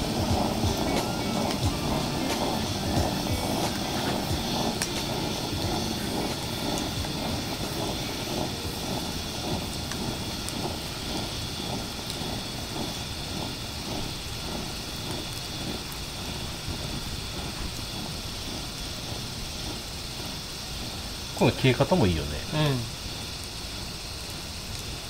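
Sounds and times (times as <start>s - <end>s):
pressure lantern roaring hiss: 0.0s - 25.0s.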